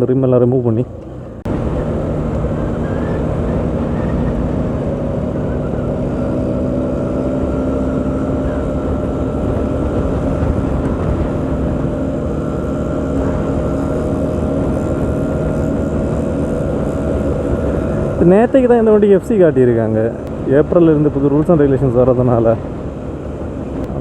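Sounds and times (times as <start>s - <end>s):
motorcycle engine humming: 0.0s - 24.0s
road and wind noise: 0.0s - 24.0s.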